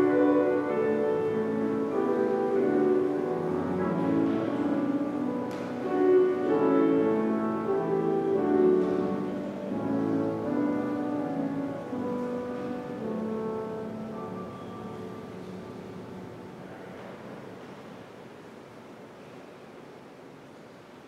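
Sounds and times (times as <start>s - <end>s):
slow keyboard chords: 0.0s - 17.7s.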